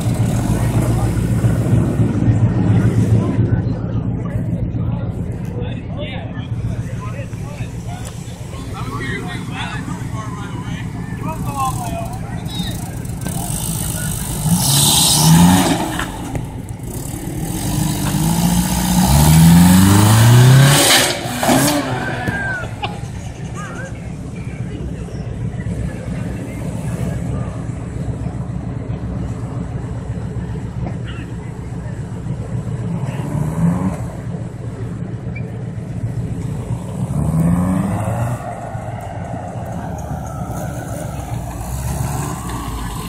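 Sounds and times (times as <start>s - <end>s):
buggy engine revving: 0.0s - 3.8s, 6.6s - 43.0s.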